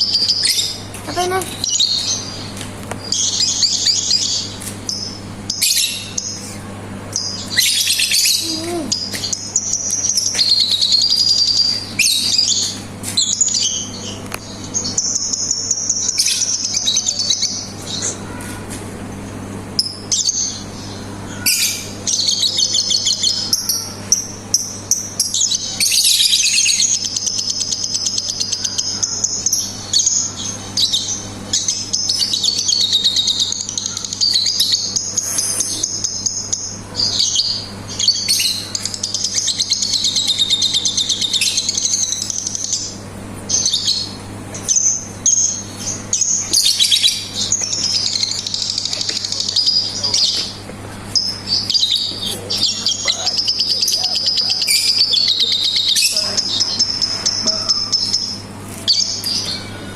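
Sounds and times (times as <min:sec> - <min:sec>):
lovebird chattering trills: 0:00.0 - 0:14.2, 0:19.8 - 0:59.9.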